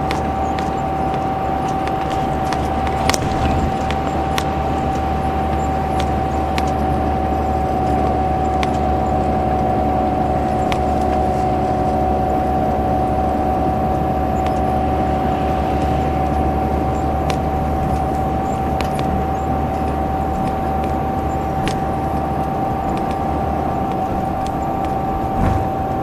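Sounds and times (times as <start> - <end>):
bus engine drone: 0.0 - 26.0
high whine: 0.0 - 26.0.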